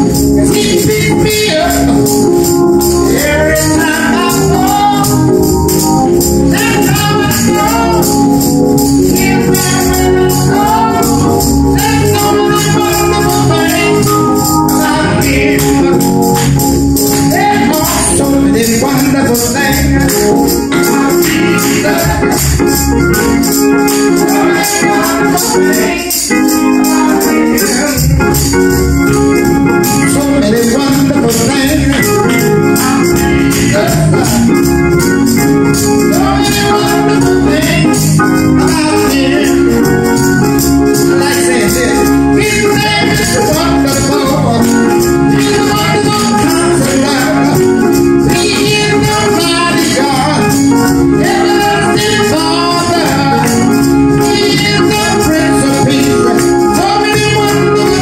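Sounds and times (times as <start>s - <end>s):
man singing: 0.0s - 28.3s, 29.8s - 34.8s, 36.0s - 58.0s
church organ chords: 0.0s - 58.0s
tambourine shaken: 0.0s - 58.0s.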